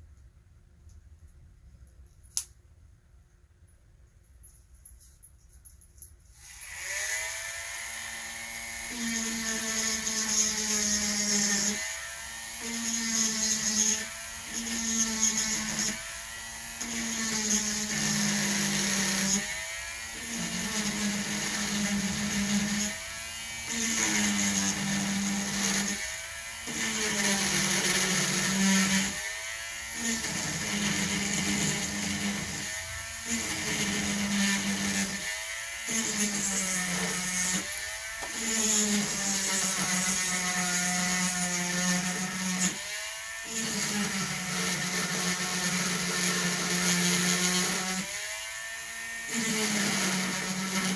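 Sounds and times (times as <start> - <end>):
rotary tool drilling stone: 6.4 - 50.9.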